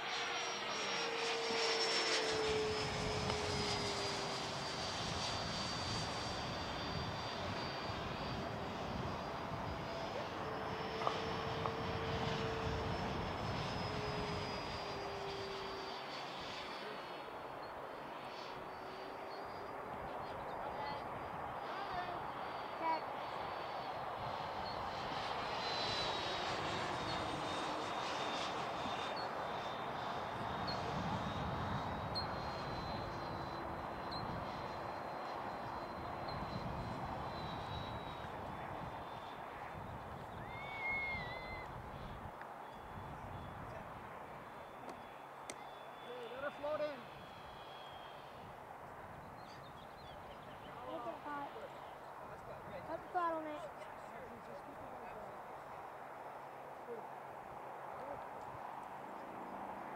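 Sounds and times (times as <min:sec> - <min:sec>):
jet model fan whine: 0:00.0 - 0:59.9.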